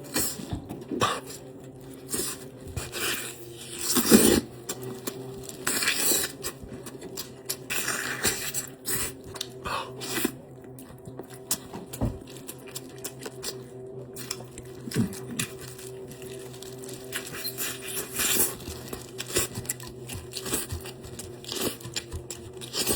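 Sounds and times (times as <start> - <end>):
chewing and biting food: 0.0 - 22.9.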